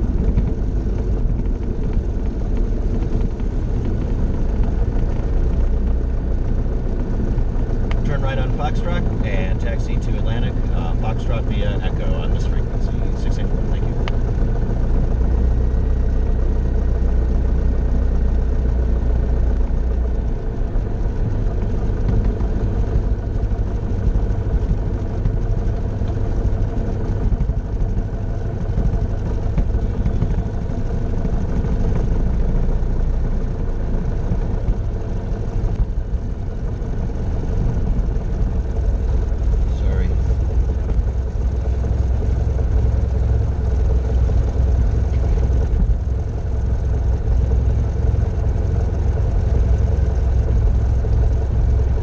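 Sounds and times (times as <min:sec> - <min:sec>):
propeller plane engine running: 0:00.0 - 0:52.0.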